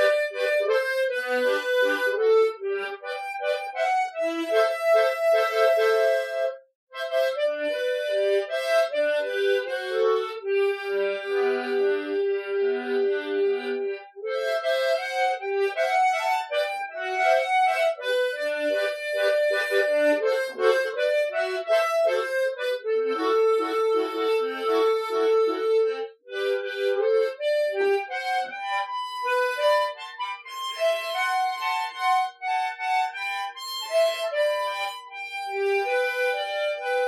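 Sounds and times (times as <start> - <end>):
solo harmonica ballad: 0.0 - 37.0.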